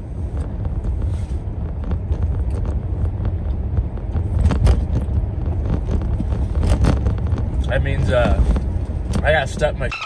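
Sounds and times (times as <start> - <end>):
low rumble inside a car: 0.0 - 10.0.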